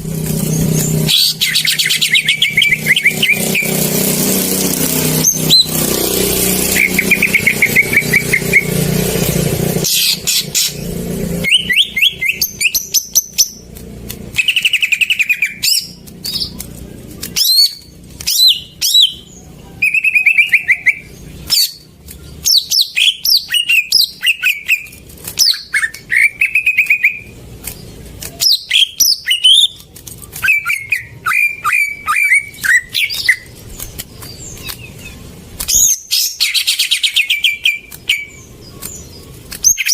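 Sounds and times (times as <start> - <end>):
vehicle passing: 0.0 - 39.9
bird singing chirps and whistles: 0.6 - 4.1, 5.2 - 5.9, 6.6 - 13.6, 14.4 - 16.6, 17.4 - 27.4, 28.4 - 39.9.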